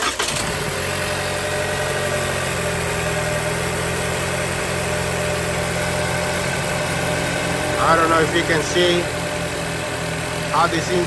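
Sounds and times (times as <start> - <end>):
car engine idling roughly: 0.0 - 11.0.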